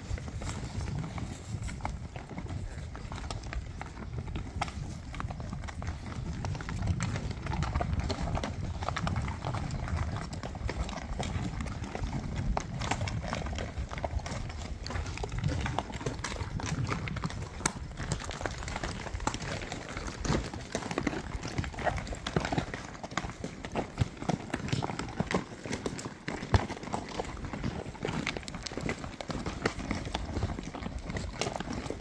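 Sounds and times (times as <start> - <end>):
hooves clopping on stony trail: 0.0 - 32.0.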